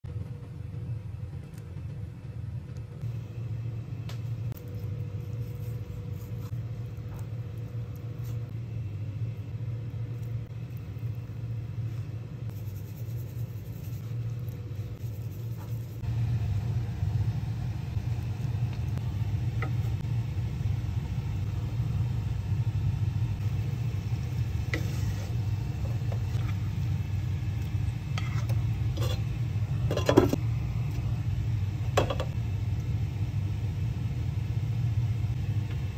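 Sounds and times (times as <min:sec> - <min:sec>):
low kitchen rumble: 0:00.0 - 0:35.9.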